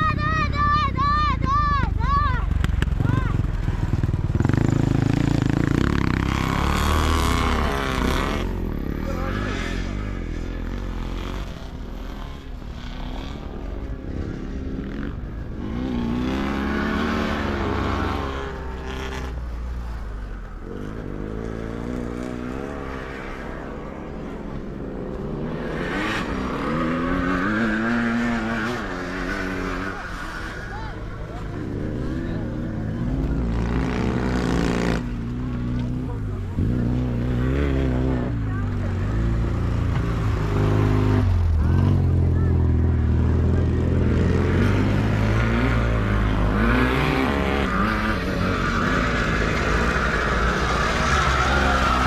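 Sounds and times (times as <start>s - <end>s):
motorcycles racing past: 0.0s - 52.0s.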